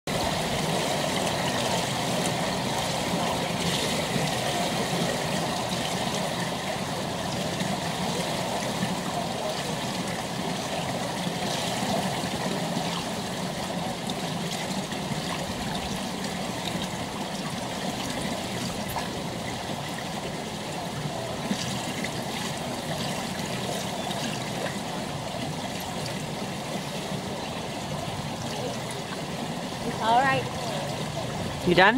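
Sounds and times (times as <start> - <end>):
pool water trickling: 0.1 - 31.9.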